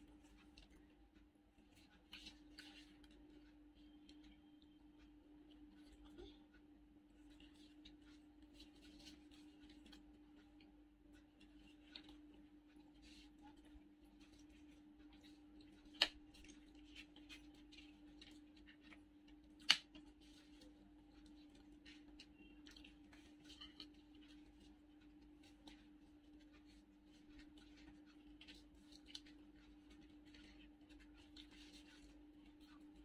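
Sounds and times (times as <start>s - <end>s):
soft eating ticks and rustles: 0.0s - 33.0s.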